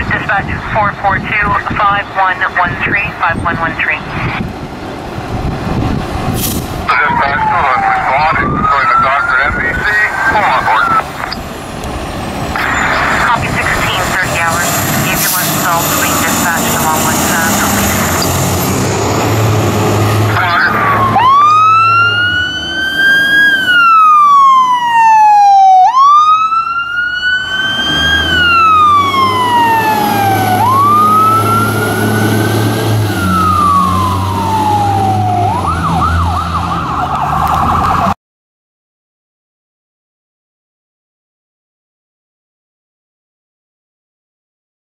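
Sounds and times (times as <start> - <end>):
fire truck siren wailing: 0.0 - 38.2.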